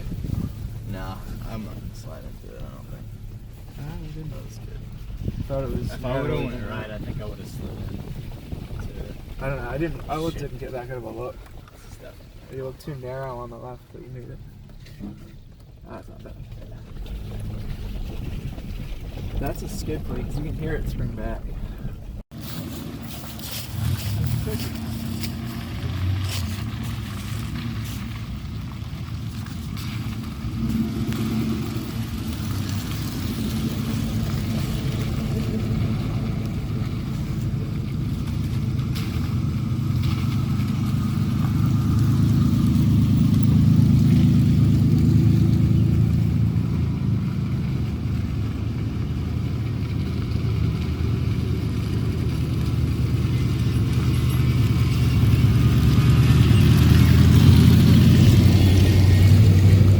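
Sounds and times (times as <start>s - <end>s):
pickup engine running: 0.0s - 59.9s.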